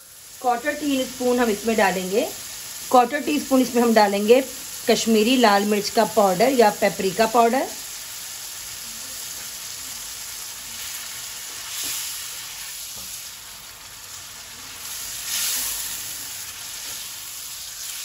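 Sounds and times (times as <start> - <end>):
meat sizzling in oil: 0.0 - 18.0.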